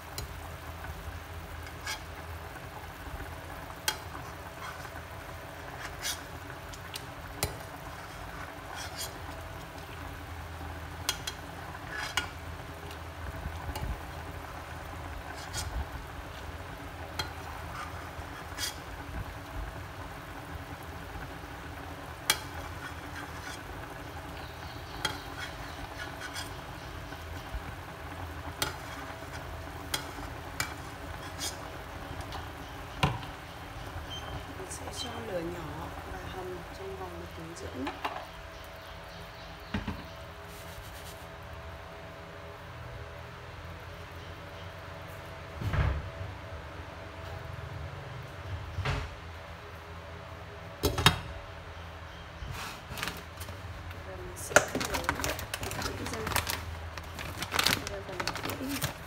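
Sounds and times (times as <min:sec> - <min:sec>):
pot boiling and bubbling: 0:00.0 - 0:59.0.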